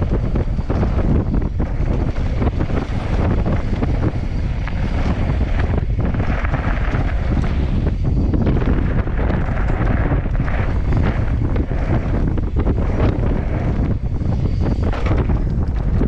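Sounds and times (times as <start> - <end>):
bike knocks and rattles: 0.0 - 16.0
wind buffeting microphone: 0.0 - 16.0.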